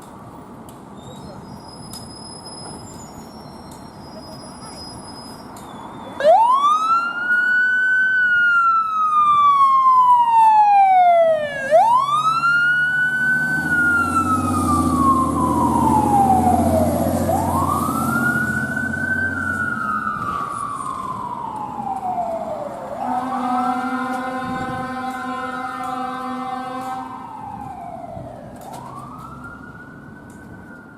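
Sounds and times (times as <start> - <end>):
fire engine siren wailing: 6.0 - 30.9.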